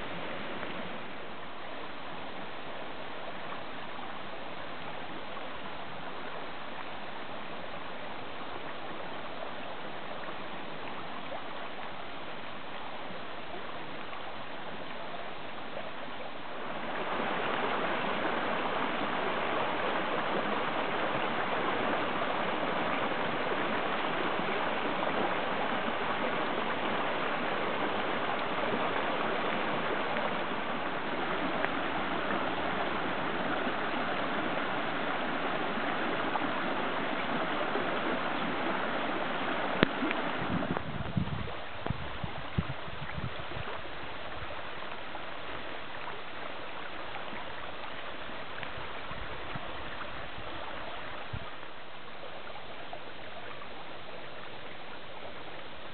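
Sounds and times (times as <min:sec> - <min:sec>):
water rushing down a creek: 0:00.0 - 0:55.9.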